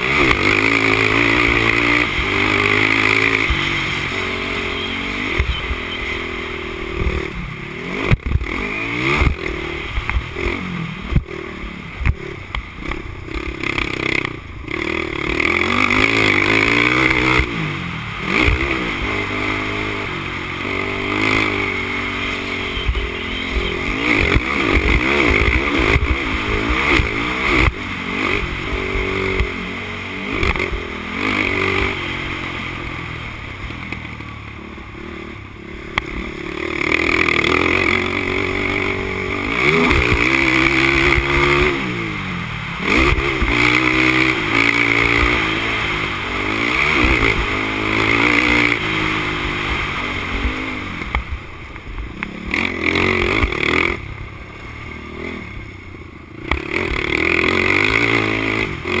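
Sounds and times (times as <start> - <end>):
quad engine revving: 0.0 - 51.5, 52.2 - 54.2, 56.4 - 59.0.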